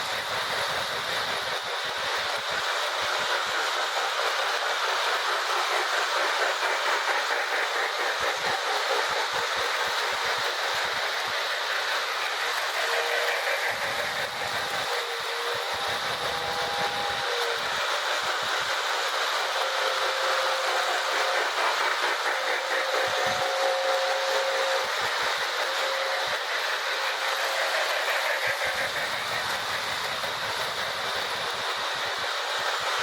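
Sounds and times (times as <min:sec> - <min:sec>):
toy train running rattle: 0:00.0 - 0:33.0.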